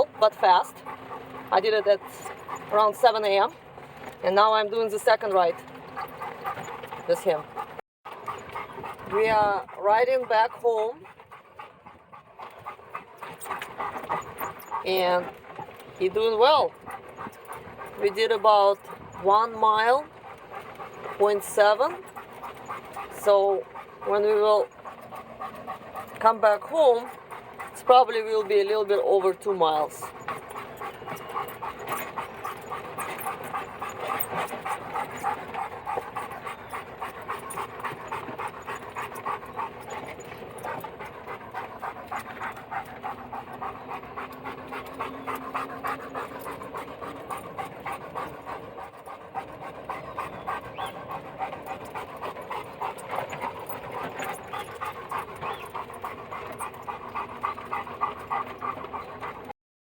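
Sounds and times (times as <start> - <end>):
dog panting hard: 0.0 - 59.6.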